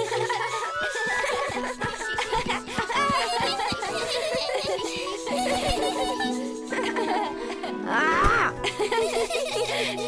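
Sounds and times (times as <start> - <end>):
cheerful cartoon music: 0.0 - 10.0
light giggling voices: 0.0 - 10.0.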